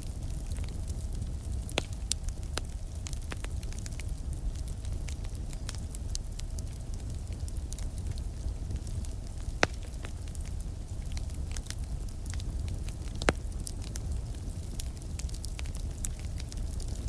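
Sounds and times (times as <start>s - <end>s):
campfire crackling: 0.0s - 17.0s
steady low rumble: 0.0s - 17.0s
loud pops of fire: 0.1s - 17.0s.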